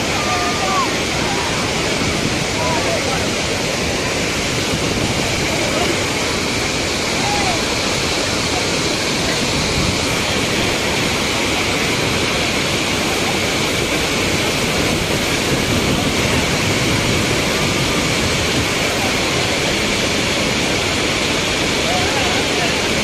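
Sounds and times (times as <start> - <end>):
water rushing over weir: 0.0 - 23.0.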